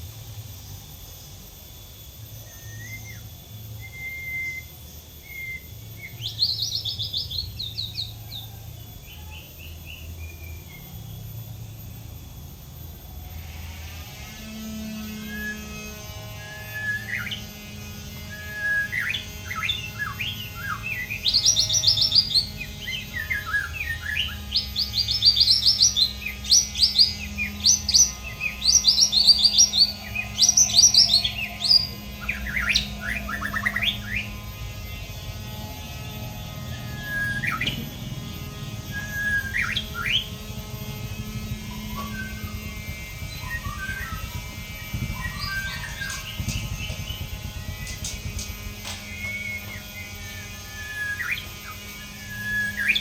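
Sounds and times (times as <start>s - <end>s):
bird singing whistles and trills: 0.4s - 12.0s, 13.4s - 53.0s.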